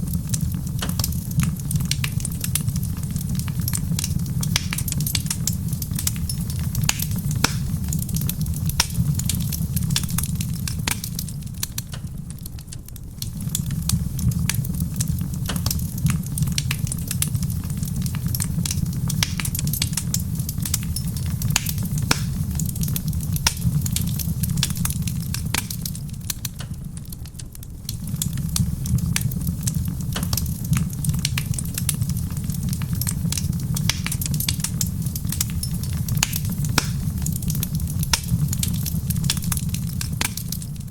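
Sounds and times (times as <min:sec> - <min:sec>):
soft rain: 0:00.0 - 0:40.9
wood fire crackling and popping: 0:00.0 - 0:40.9.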